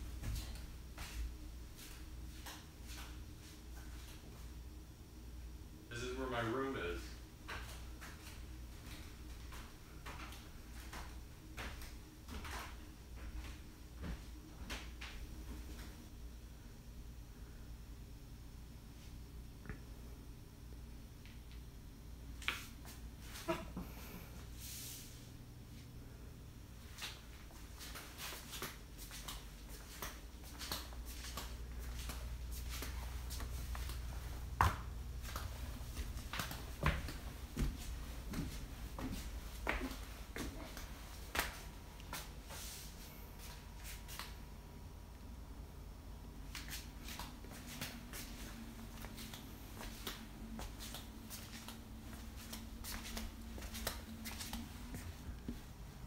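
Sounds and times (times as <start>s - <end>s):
footsteps in a room: 0.0s - 5.5s, 7.1s - 16.3s, 21.0s - 45.0s, 46.1s - 56.0s
steady low hum: 0.0s - 56.0s.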